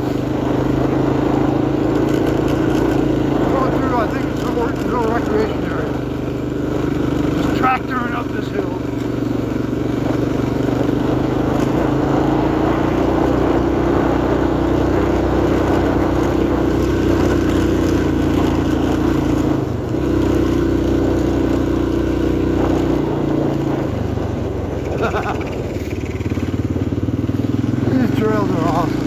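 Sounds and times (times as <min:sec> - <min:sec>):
motorcycle engine pulling uphill: 0:00.0 - 0:29.0.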